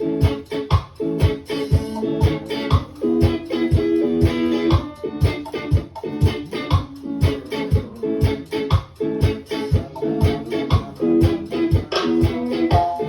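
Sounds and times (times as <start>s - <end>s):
kick drum beat: 0.0s - 13.0s
plucked guitar chords: 0.0s - 13.0s.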